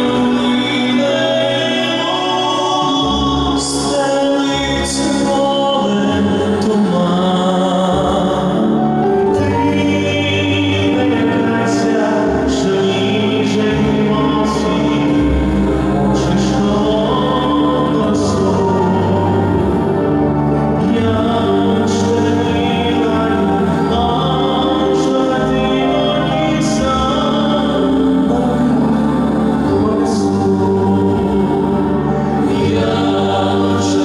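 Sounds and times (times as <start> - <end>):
male vocal group singing in harmony: 0.0 - 34.0.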